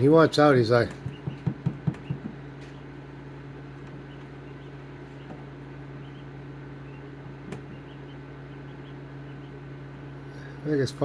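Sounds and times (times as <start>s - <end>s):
chicks peeping: 0.0s - 11.0s
incubator fan hum: 0.0s - 11.0s.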